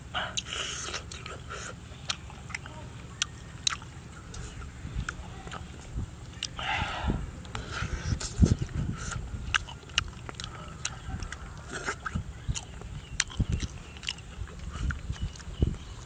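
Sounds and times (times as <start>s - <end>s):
person chewing and tearing meat: 0.3s - 5.7s, 7.5s - 16.0s.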